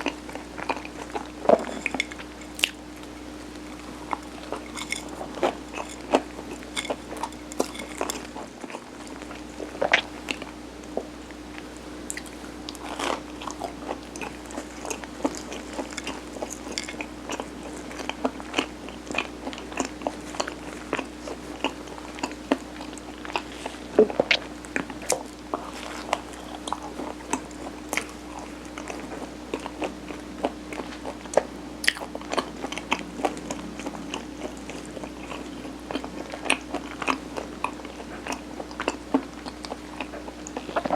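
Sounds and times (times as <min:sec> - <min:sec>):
chewing and biting rice cake: 0:00.0 - 0:40.9
steady low hum: 0:00.0 - 0:40.9.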